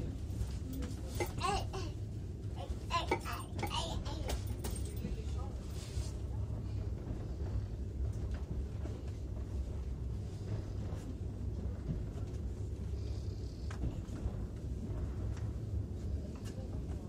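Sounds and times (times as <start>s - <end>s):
train carriage rumbling: 0.0s - 17.0s.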